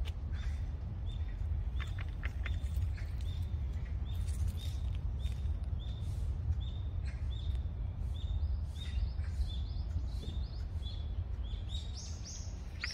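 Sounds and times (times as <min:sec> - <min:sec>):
steady low rumble: 0:00.0 - 0:12.9
bird chirping: 0:00.3 - 0:12.9.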